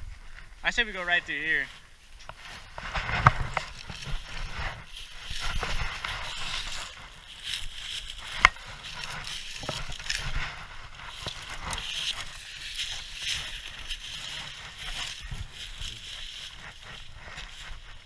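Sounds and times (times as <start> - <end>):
twigs rustling and snapping underfoot: 0.1 - 18.0.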